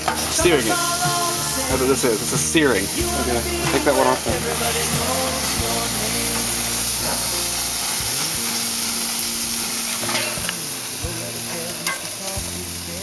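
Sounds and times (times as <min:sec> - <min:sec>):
food sizzling on a grill: 0:00.0 - 0:13.0.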